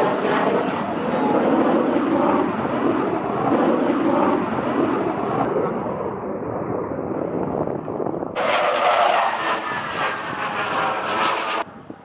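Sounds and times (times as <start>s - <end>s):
faint jet whine: 0.0s - 12.0s
fighter jet engines roaring: 0.0s - 12.0s.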